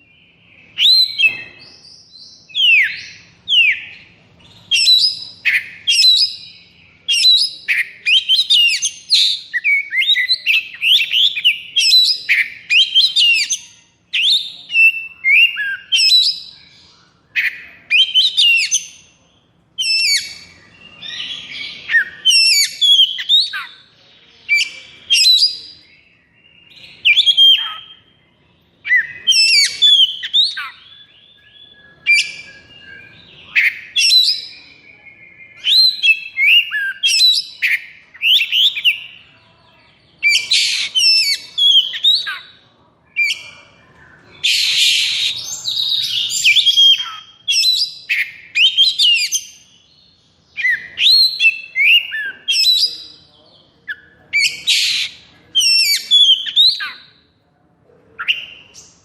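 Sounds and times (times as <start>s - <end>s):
bird singing whistles and chatter: 0.0s - 57.4s, 58.1s - 59.0s.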